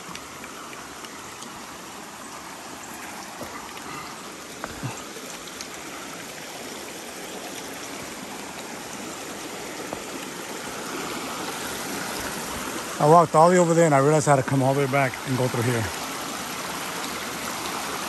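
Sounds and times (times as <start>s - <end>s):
creek running over rocks: 0.0s - 18.0s.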